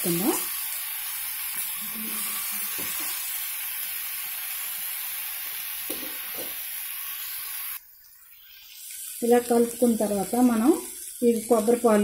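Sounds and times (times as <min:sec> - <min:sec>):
rice sizzling in hot oil: 0:00.0 - 0:12.0.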